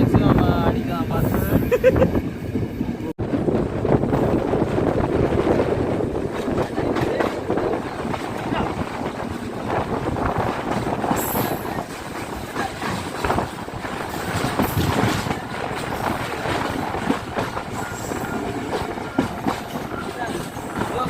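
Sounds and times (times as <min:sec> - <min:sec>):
train wheels clattering on track: 0:04.0 - 0:21.0.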